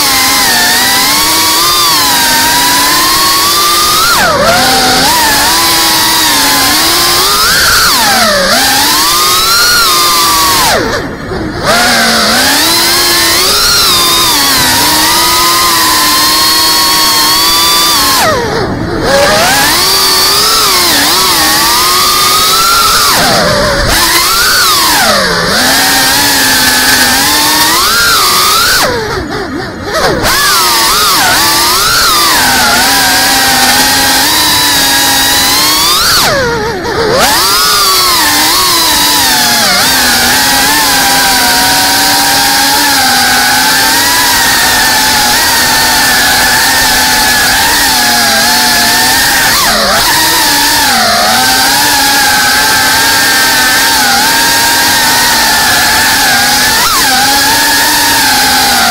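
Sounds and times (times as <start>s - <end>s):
drone motors whining: 0.0s - 58.9s.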